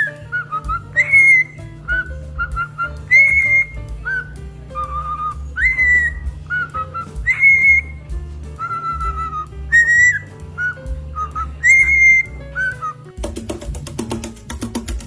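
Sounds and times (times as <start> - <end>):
parrot whistling a tune: 0.0 - 13.2
low background music: 0.0 - 15.0.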